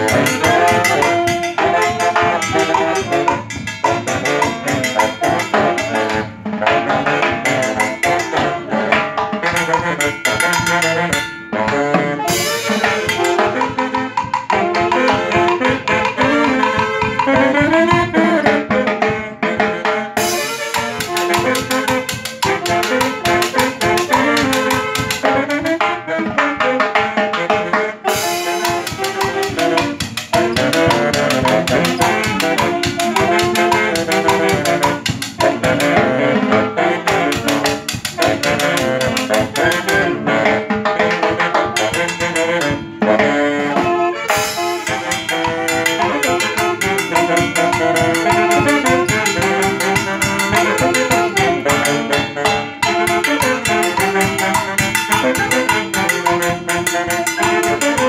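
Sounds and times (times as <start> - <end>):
drum kit beat: 0.0 - 58.0
saxophones playing a tune: 0.0 - 58.0.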